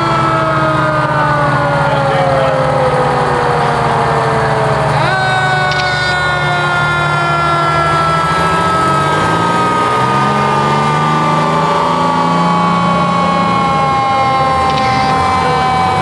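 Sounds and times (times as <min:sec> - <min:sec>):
fire truck engines running: 0:00.0 - 0:16.0
mechanical siren winding down: 0:00.0 - 0:16.0.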